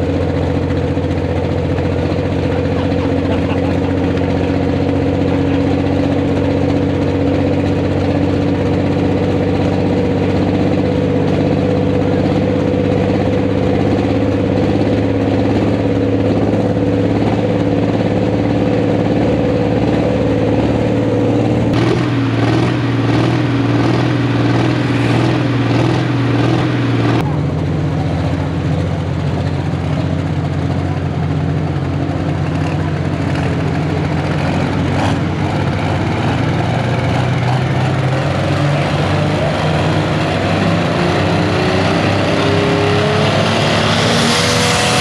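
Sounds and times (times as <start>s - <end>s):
tractor engine running loudly: 0.0s - 45.0s.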